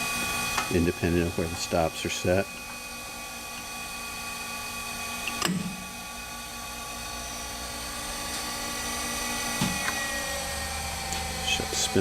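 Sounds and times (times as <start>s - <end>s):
grinder whining: 0.0s - 12.0s.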